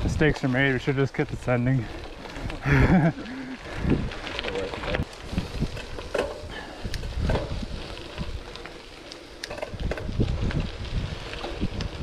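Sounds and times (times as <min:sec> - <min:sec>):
bike clicks and rattles: 0:00.0 - 0:12.0
tyres crunching over stones: 0:00.0 - 0:12.0
wind rumbling on microphone: 0:00.0 - 0:12.0.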